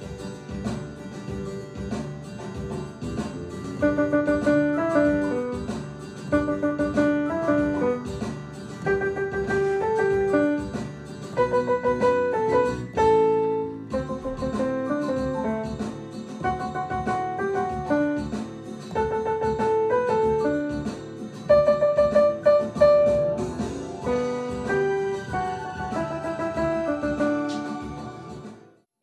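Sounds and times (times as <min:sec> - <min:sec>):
instrumental background music: 0:00.0 - 0:28.8.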